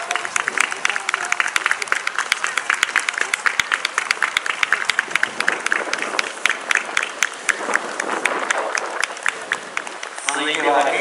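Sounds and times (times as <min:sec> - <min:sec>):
people applauding: 0:00.0 - 0:11.0.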